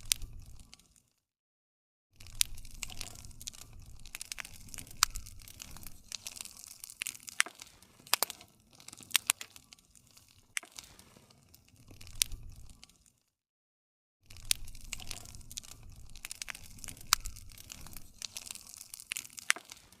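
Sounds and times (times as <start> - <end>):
campfire crackling and popping: 0.0 - 1.1, 2.2 - 13.2, 14.3 - 20.0.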